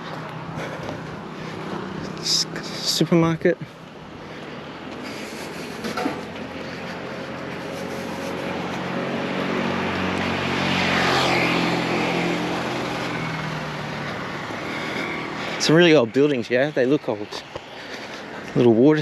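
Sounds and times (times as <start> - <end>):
motor vehicle passing by: 0.0 - 19.0
road noise: 0.0 - 19.0.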